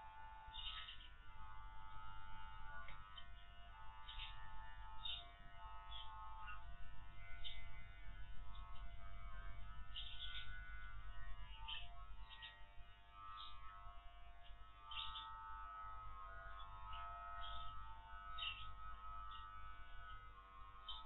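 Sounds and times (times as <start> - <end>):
electric clippers buzzing: 0.0 - 21.0.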